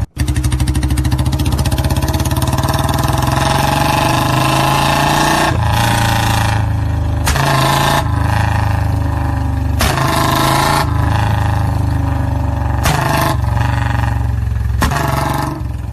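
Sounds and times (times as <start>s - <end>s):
exhaust backfire pops: 0.0s - 15.9s
motorcycle engine revving: 0.0s - 15.9s.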